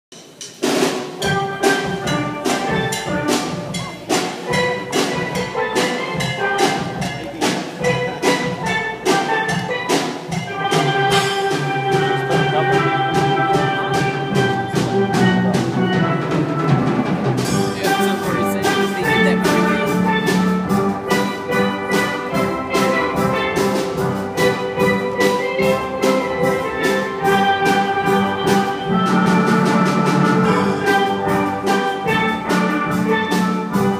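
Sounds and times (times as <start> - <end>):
steel drum band playing: 0.1 - 33.9.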